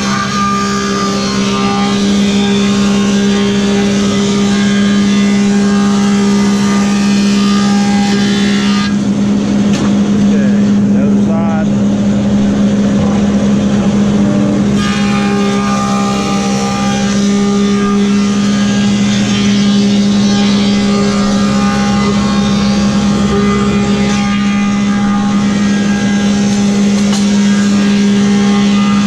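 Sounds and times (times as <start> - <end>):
planer cutting board: 0.0 - 11.6, 12.8 - 29.0
planer motor hum: 0.0 - 29.0.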